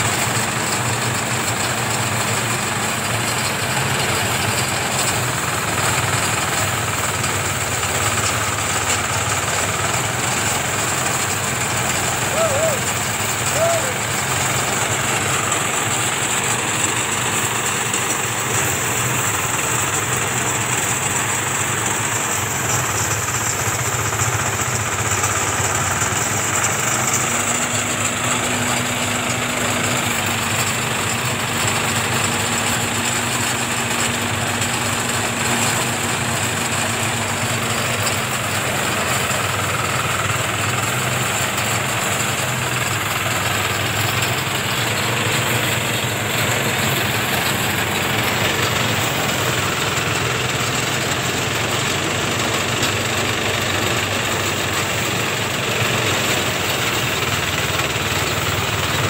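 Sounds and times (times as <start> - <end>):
rice thresher engine droning: 0.0 - 59.0.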